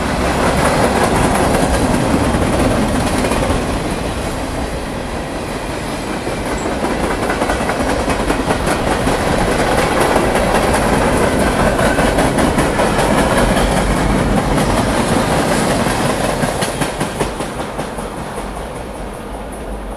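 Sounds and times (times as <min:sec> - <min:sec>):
train rumble: 0:00.0 - 0:19.9
train wheels clacking: 0:00.0 - 0:19.9.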